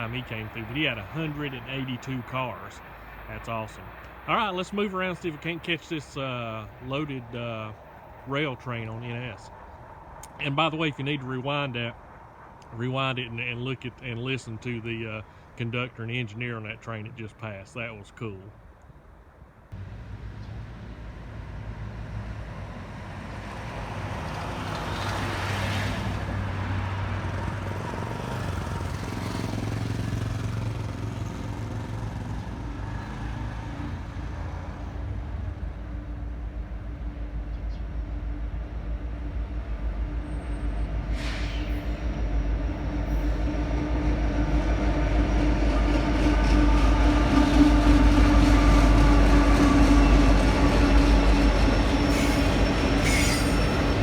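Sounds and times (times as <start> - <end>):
diesel locomotive rumbling: 0.0 - 54.0.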